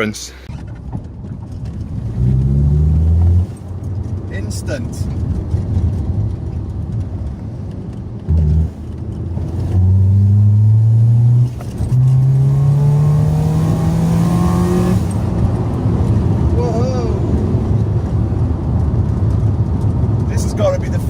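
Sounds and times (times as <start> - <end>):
car engine accelerating hard: 1.4 - 7.4, 8.0 - 21.0.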